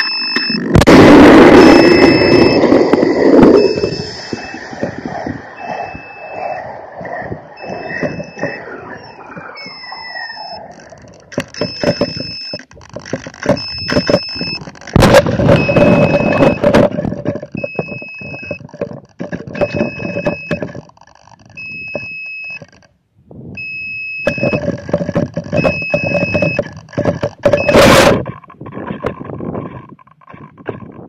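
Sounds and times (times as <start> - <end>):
rattling and rushing air: 0.0 - 22.0, 22.6 - 31.0
two-tone electronic beeping: 0.0 - 22.8, 23.6 - 28.4.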